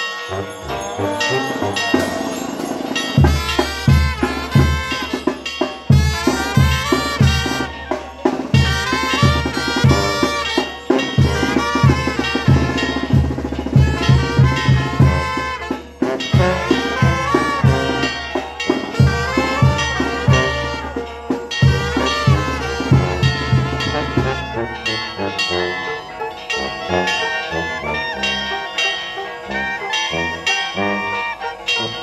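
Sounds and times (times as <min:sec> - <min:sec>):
brass band with drums: 0:00.0 - 0:32.0.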